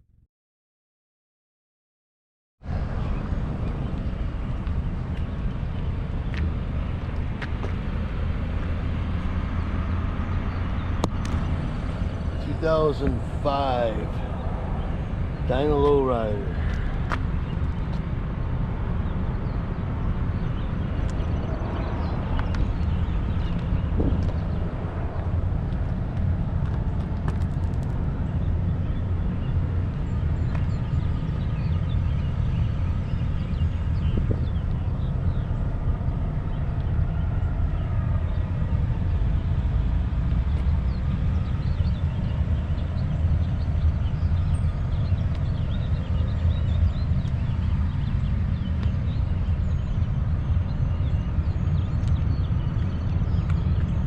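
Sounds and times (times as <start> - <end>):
vehicle road rumble: 2.6 - 54.0.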